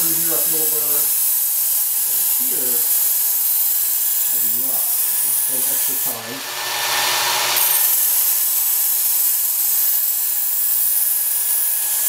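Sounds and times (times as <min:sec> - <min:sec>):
belt sharpener grinding knife: 0:00.0 - 0:12.0.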